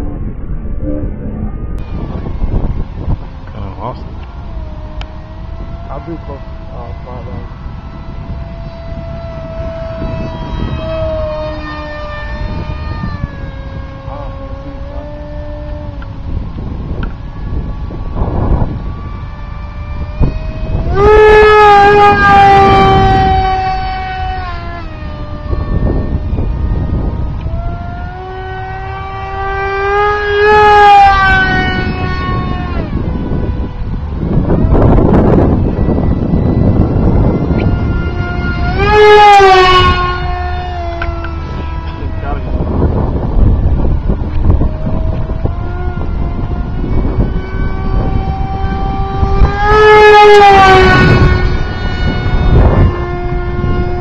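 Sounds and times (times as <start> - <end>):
wind noise on microphone: 0.0 - 54.0
model jet motor whining: 3.4 - 16.1, 16.9 - 54.0.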